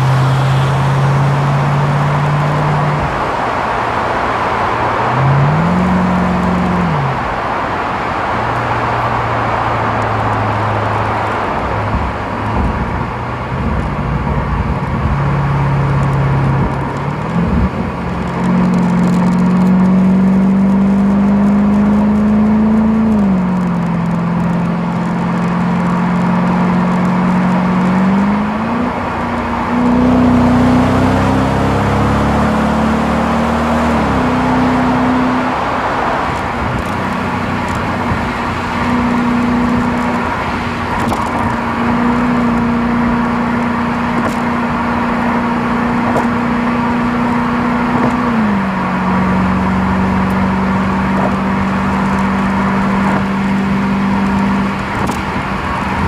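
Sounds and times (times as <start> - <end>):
car exhaust note rising with revs: 0.0 - 3.5, 4.1 - 56.0.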